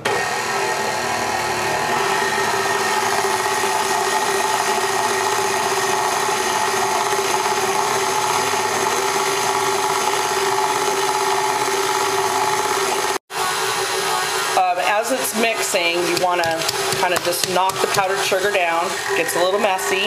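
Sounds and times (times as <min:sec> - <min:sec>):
stand mixer motor hum: 0:00.0 - 0:20.0.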